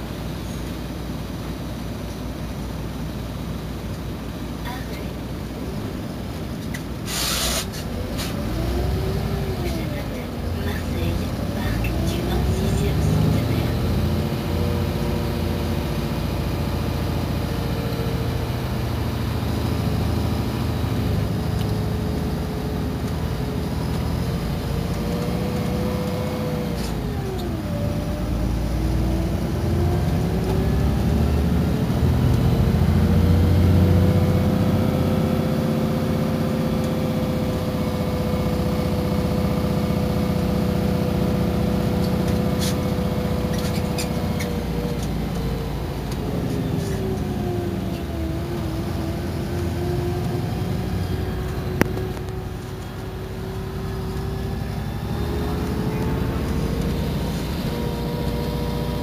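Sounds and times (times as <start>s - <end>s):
bus engine rumbling and whining: 0.0s - 59.0s.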